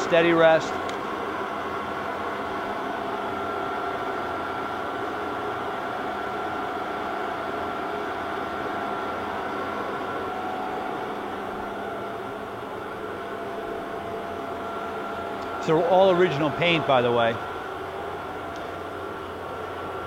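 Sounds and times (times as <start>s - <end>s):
machinery hum and whine: 0.0s - 20.0s.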